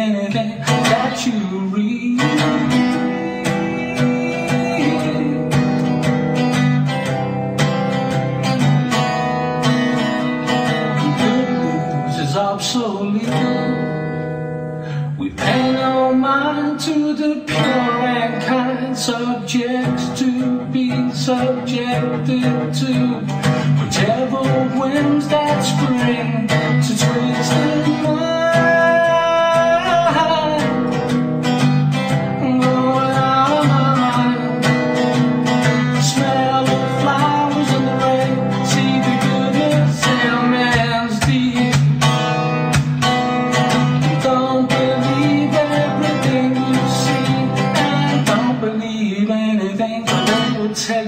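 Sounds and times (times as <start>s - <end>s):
acoustic guitar strumming chords: 0.0s - 51.0s.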